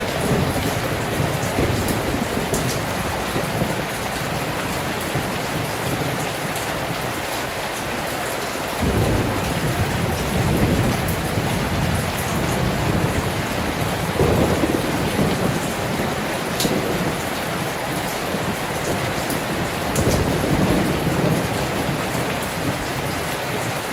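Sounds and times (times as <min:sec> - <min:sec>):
deep thunder rumble: 0:00.0 - 0:07.2, 0:08.8 - 0:23.8
heavy rain falling: 0:00.0 - 0:23.9.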